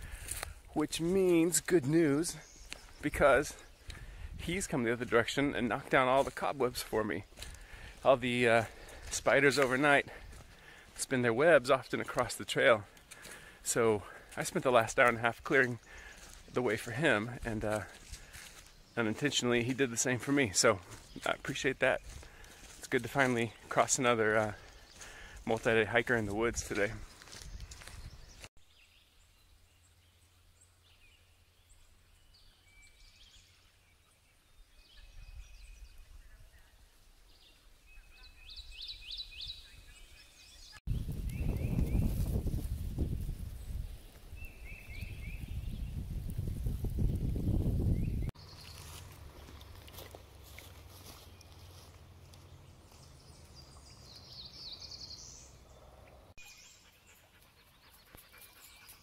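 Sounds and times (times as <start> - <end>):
birds chirping: 0.0 - 59.0
songbird singing: 0.0 - 59.0.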